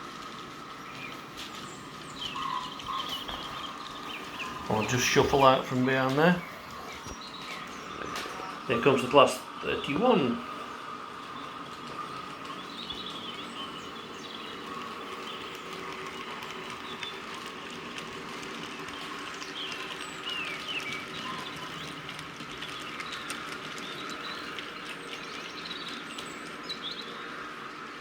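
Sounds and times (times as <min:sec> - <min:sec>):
model train motor hum: 0:00.0 - 0:28.0
wheels clicking on track: 0:00.0 - 0:28.0
recorded bird chirps: 0:00.1 - 0:27.6.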